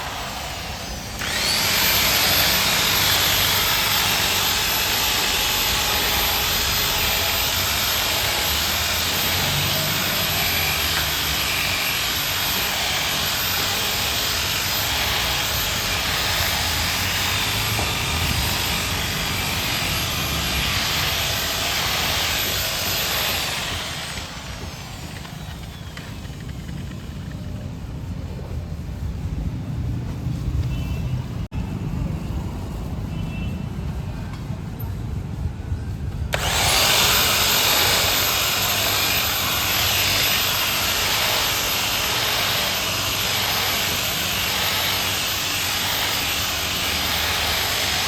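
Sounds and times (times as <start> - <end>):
power tool whining: 0.0 - 27.4, 36.3 - 48.0.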